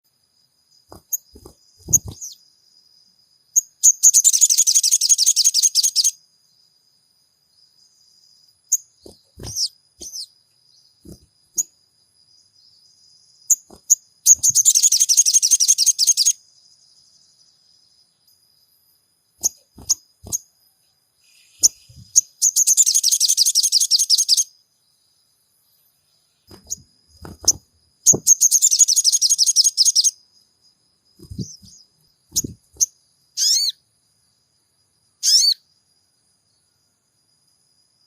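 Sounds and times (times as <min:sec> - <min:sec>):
songbird chirps and trills: 0:00.0 - 0:38.0.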